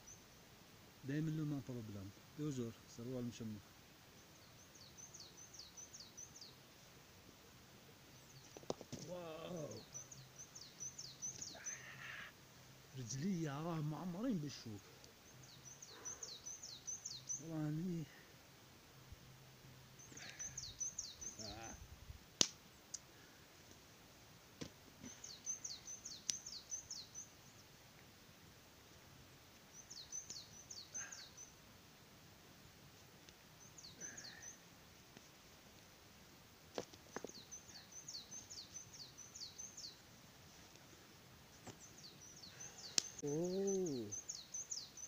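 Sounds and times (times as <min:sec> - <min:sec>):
songbird singing: 0:00.0 - 0:24.0, 0:24.6 - 0:35.9, 0:36.8 - 0:45.0.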